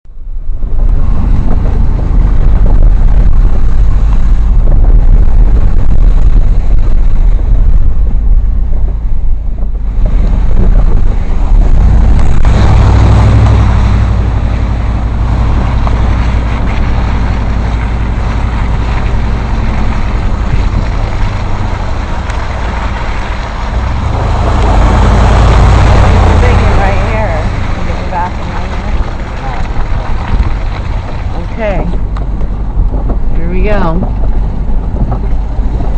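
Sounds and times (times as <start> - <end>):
vehicle engine low rumble: 0.0 - 35.9
wind buffeting microphone: 0.1 - 35.9.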